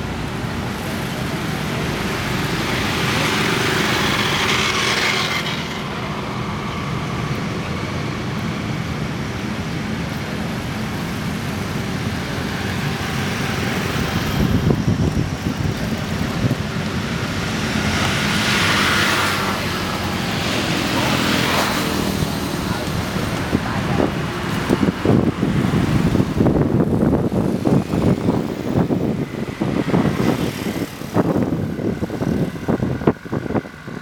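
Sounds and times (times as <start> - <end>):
city road traffic: 0.0 - 34.0
rough engine noise: 0.0 - 34.0.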